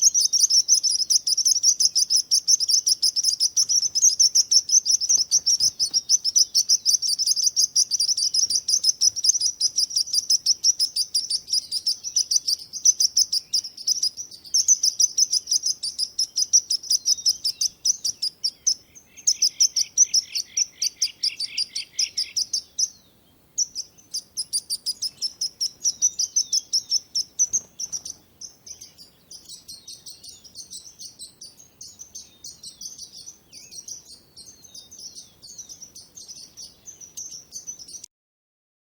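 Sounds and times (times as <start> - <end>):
low bird trill: 0.0 - 38.1
songbirds chirping: 0.0 - 38.1.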